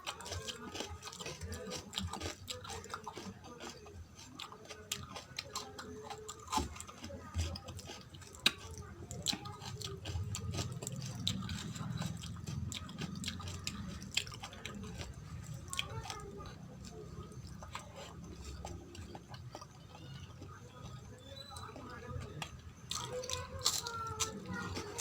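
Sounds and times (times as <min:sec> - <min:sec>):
close-miked chewing: 0:00.0 - 0:25.0.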